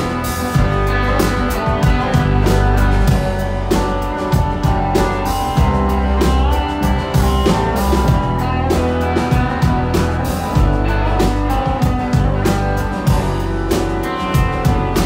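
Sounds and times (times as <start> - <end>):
drums steady beat: 0.0 - 15.0
electric bass: 0.0 - 15.0
guitars: 0.0 - 15.0.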